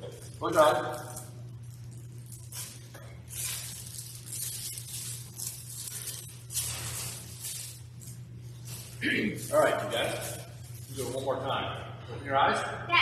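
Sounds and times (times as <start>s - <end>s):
mask rustling: 0.0s - 11.3s
low hum: 0.0s - 13.0s.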